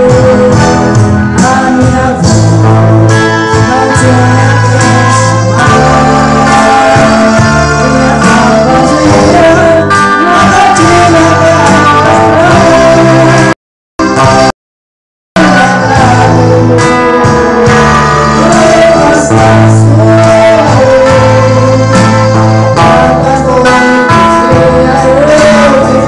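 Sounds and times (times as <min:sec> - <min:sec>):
man and woman singing a duet: 0:00.0 - 0:13.6, 0:15.4 - 0:26.0
accompanying music: 0:00.0 - 0:14.5, 0:15.4 - 0:26.0.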